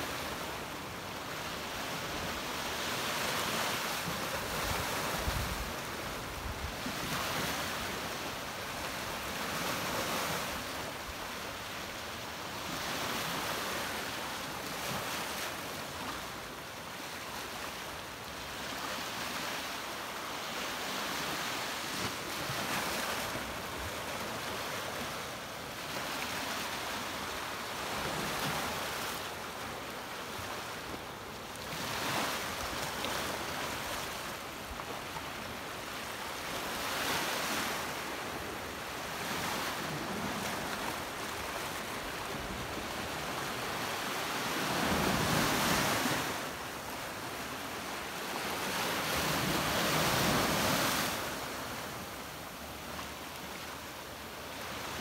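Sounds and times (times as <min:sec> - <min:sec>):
waves washing onto beach: 0:00.0 - 0:55.0.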